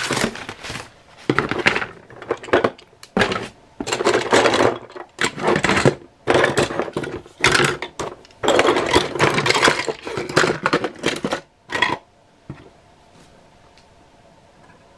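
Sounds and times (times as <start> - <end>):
plastic toys clattering: 0.0 - 12.6.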